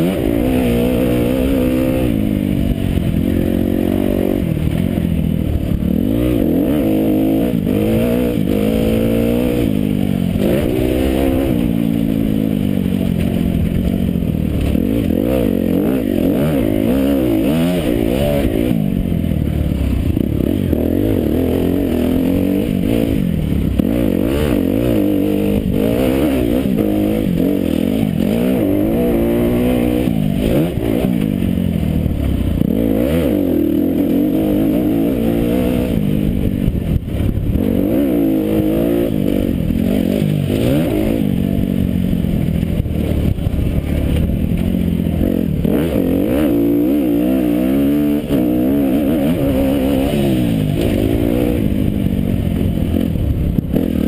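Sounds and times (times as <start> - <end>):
motorbike engine revving: 0.0 - 54.0
wind noise: 0.0 - 54.0.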